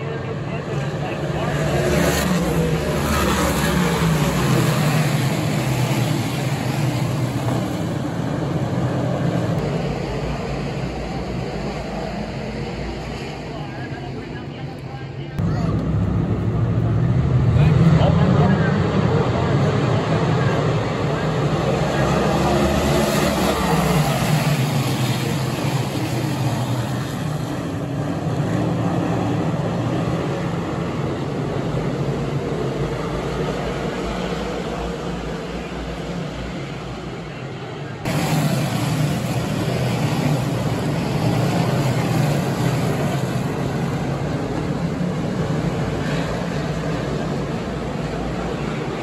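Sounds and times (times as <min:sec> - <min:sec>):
race car engines roaring past: 0:00.0 - 0:49.0.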